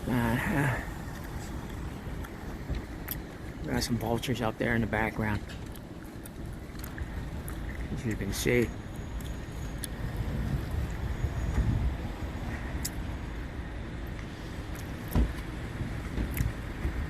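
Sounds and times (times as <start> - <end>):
car traffic rumble: 0.0 - 17.0.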